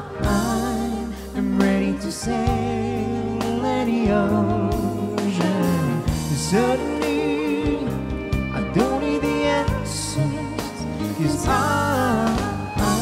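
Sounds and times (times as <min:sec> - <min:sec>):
guitar: 0:00.0 - 0:13.0
low bass notes: 0:00.0 - 0:13.0
violin: 0:00.0 - 0:13.0
woman and man singing: 0:00.0 - 0:13.0.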